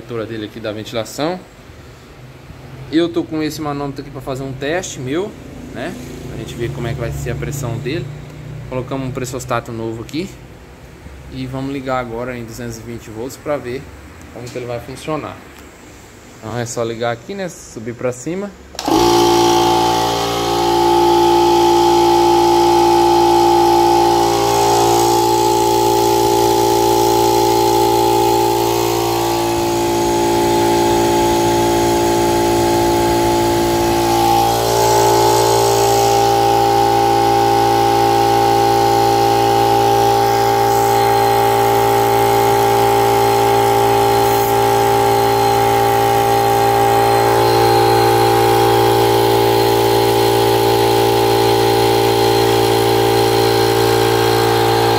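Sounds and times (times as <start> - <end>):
air compressor running: 4.4 - 12.6, 18.7 - 54.9.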